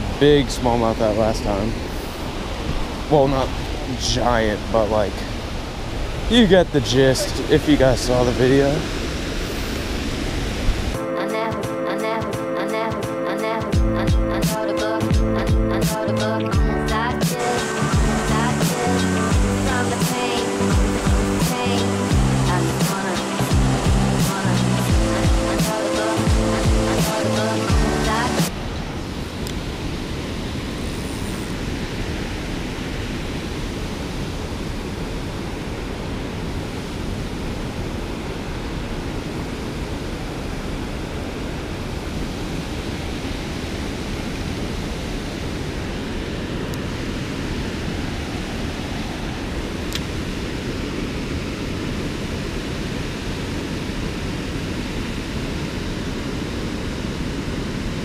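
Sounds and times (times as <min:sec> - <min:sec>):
water rushing over waterfall: 0:00.0 - 0:11.0, 0:17.3 - 0:58.0.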